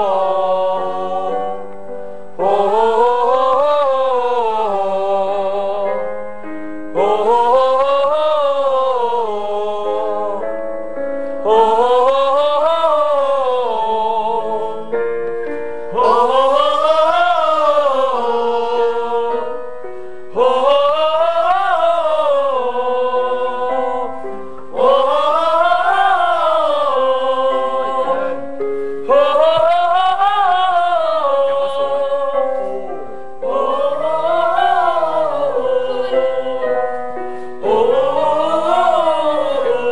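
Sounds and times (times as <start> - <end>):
group vocal warm-up in unison: 0.0 - 6.2, 6.9 - 10.6, 11.2 - 15.0, 15.7 - 39.9
piano: 0.0 - 39.9.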